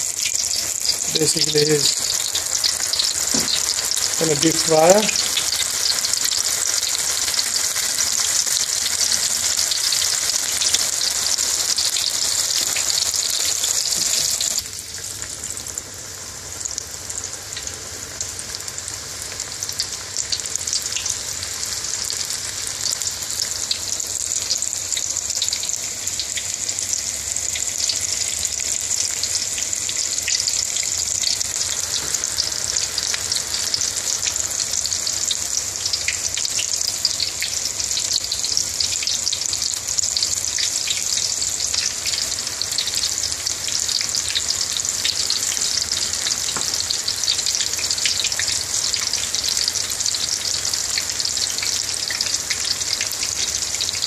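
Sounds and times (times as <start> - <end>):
batter sizzling in hot oil: 0.0 - 54.0.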